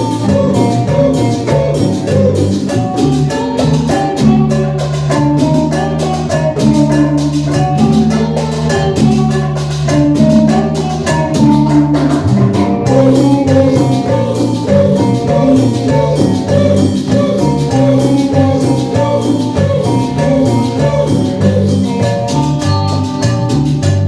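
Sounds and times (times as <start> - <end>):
live band playing cumbia: 0.0 - 24.0.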